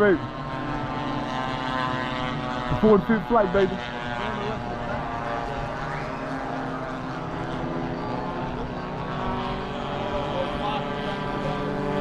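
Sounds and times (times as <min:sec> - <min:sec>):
model airplane propeller engines humming: 0:00.0 - 0:12.0.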